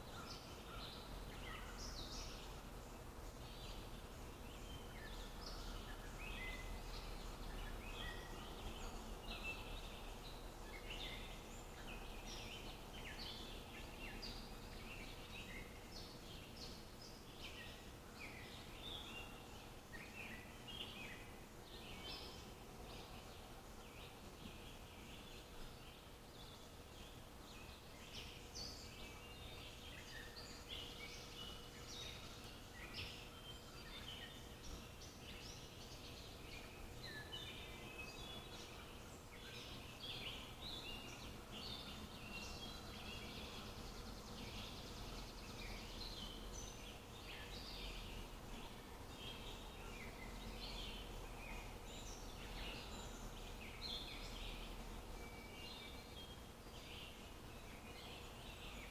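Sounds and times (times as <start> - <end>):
faint outdoor hiss: 0.0 - 58.9
small birds chirping: 0.0 - 58.9.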